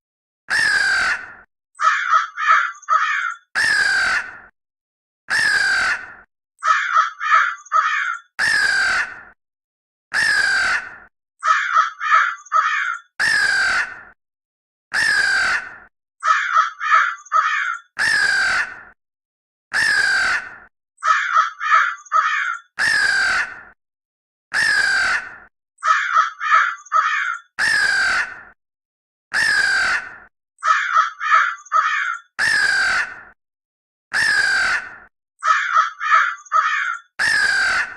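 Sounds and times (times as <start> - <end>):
crow cawing: 0.5 - 4.5, 5.3 - 9.4, 10.1 - 14.1, 14.9 - 19.0, 19.7 - 23.8, 24.5 - 28.5, 29.3 - 33.4, 34.1 - 37.9.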